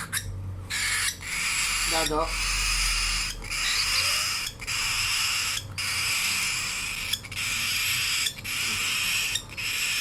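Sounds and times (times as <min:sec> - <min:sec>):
cockatiels raspy begging calls: 0:00.0 - 0:10.0.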